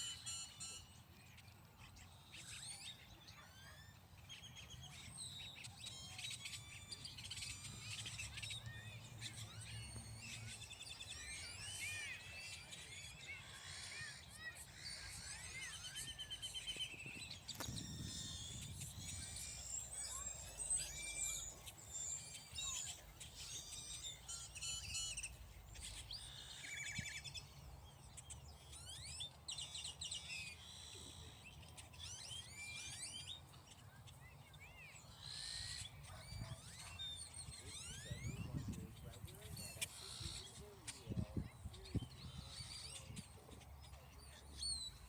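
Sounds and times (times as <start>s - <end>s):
small birds chirping and singing: 0.0s - 45.0s.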